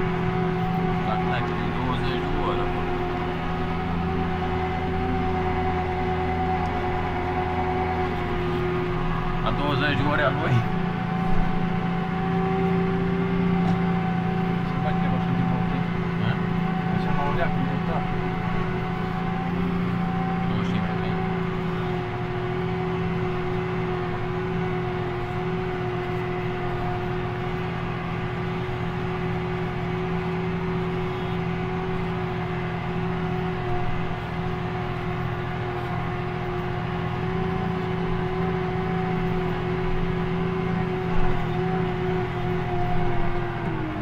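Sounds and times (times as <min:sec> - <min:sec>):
tractor engine droning: 0:00.0 - 0:44.0.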